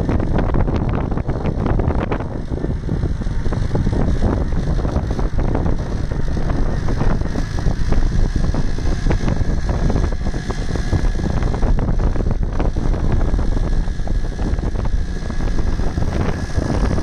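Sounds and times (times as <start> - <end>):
wind buffeting the microphone: 0.0 - 17.0.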